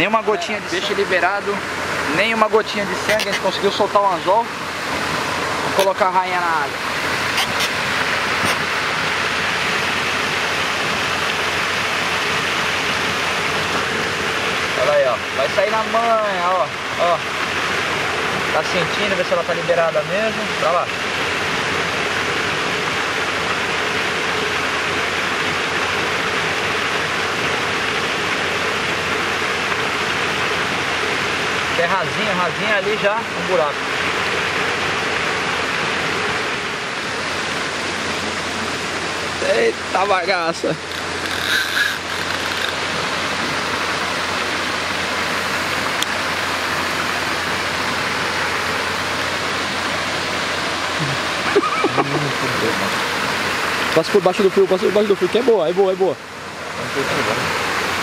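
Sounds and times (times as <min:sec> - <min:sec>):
aerator splashing water: 0:00.0 - 0:58.0.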